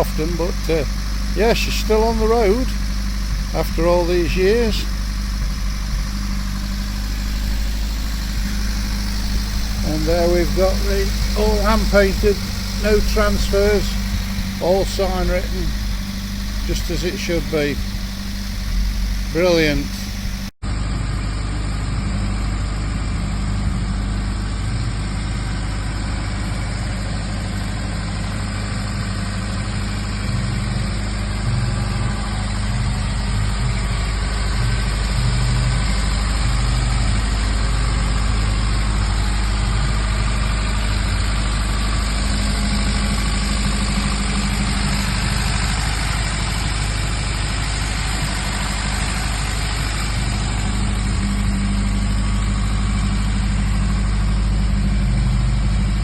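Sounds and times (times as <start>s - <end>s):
van engine idling: 0.0s - 56.0s.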